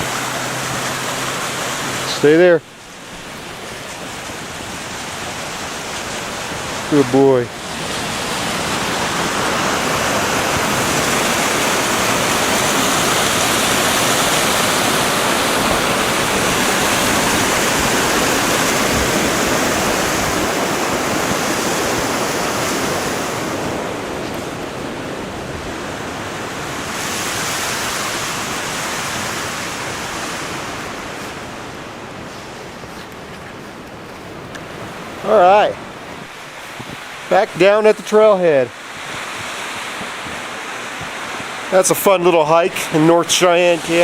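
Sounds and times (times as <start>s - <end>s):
creek water rushing: 0.0s - 44.0s.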